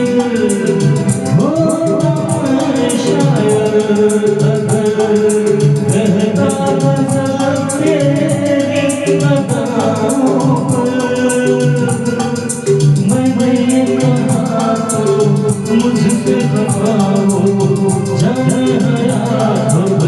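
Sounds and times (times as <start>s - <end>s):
bass line: 0.0s - 20.0s
person singing: 0.0s - 20.0s
shaker beat: 0.0s - 20.0s.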